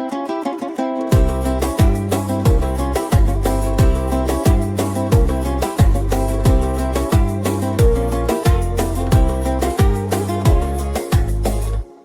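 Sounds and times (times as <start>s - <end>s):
held melodic notes: 0.1s - 12.0s
deep kick drum: 1.2s - 11.4s.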